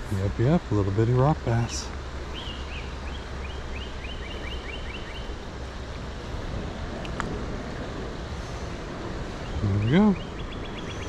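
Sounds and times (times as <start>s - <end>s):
creek water rushing: 0.0s - 11.0s
songbird singing: 0.0s - 11.0s.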